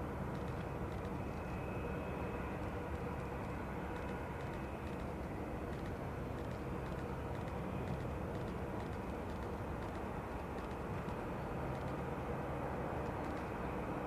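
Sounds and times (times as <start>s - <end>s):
jet engine rumble and whine: 0.0s - 14.0s.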